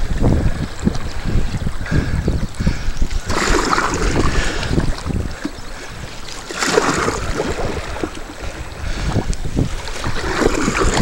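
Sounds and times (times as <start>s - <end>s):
wind buffeting microphone: 0.0s - 11.0s
water splashing against canoe hull: 0.8s - 11.0s.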